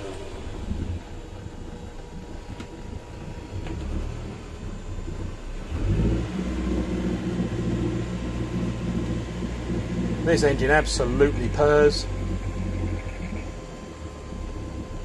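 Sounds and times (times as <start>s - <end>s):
boat inboard engine running: 0.0s - 15.0s.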